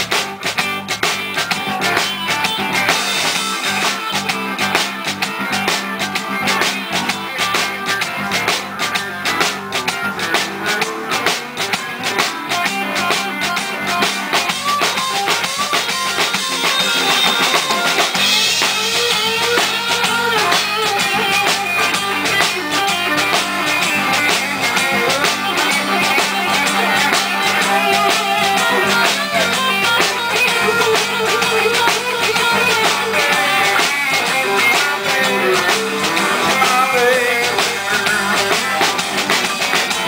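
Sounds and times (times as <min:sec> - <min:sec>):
bass guitar: 0:00.0 - 0:40.0
drum kit beats and cymbals: 0:00.0 - 0:40.0
electric guitar: 0:00.0 - 0:40.0.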